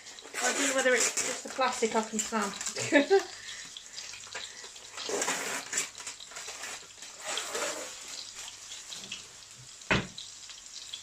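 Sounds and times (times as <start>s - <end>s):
burgers sizzling in a frying pan: 0.0s - 11.0s.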